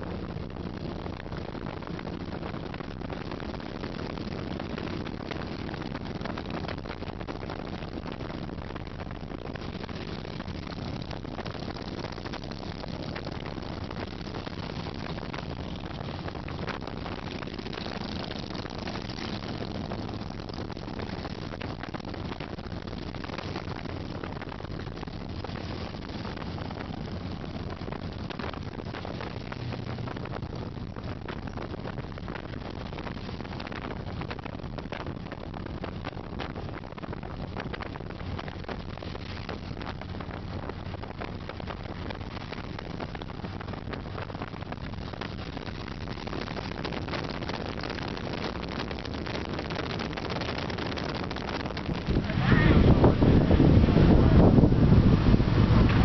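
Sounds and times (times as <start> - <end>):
vehicle engine drone: 0.0 - 56.0
wind buffeting microphone: 0.0 - 56.0
wind rush: 0.0 - 56.0.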